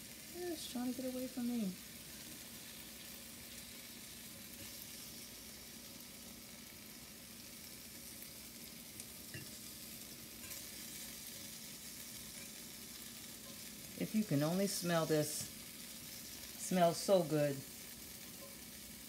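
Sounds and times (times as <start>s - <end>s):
vegetables sizzling in a skillet: 0.0s - 19.0s.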